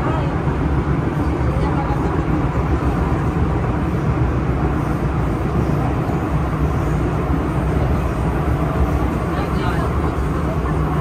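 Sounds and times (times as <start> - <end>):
train rumbling at speed: 0.0 - 11.0.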